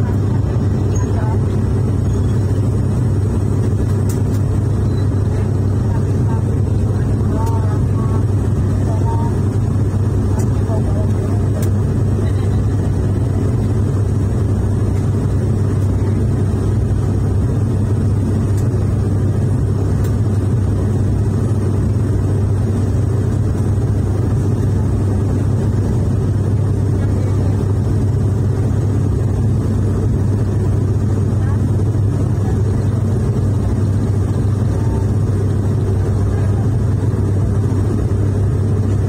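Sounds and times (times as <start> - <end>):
airliner cabin engine drone: 0.0 - 39.0.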